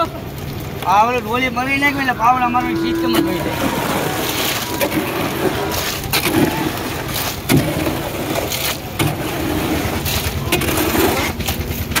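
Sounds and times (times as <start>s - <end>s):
construction machine engine: 0.0s - 12.0s.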